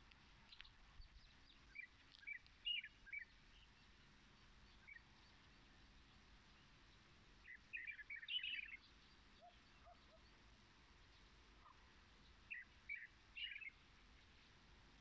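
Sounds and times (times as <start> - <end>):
faint songbird chirps: 0.0 - 15.0.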